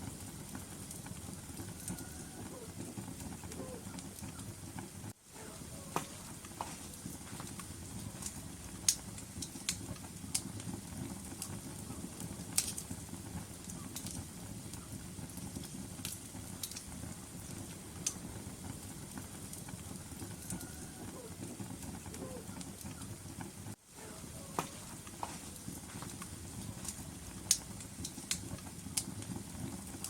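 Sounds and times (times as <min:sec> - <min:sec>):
fire crackling and popping: 0:00.0 - 0:30.0
fire rumbling: 0:00.0 - 0:30.0.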